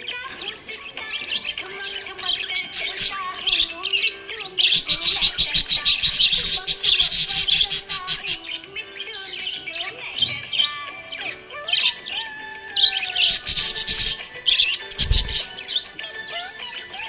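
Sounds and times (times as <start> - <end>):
budgie chattering clicky chirps: 0.0 - 12.2, 12.9 - 17.0
budgie chirping and warbling: 0.0 - 17.0.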